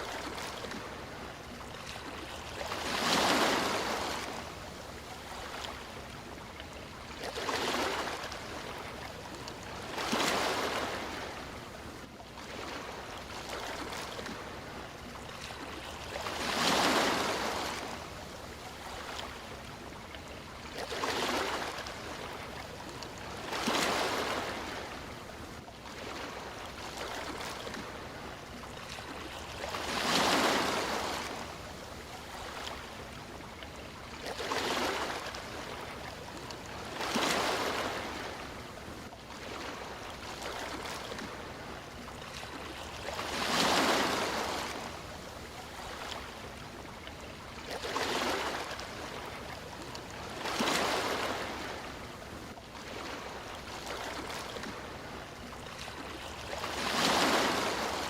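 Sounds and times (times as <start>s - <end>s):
sea waves surging and washing: 0.0s - 58.0s.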